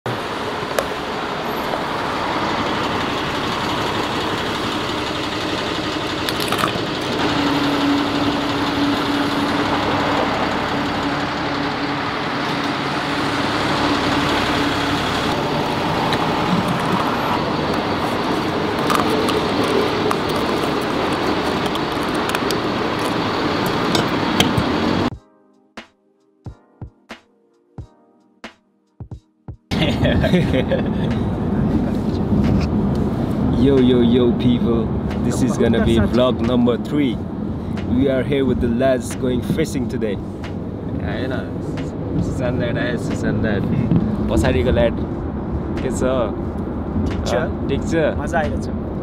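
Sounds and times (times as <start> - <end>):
road traffic with engines running: 0.1 - 25.1, 29.7 - 49.0.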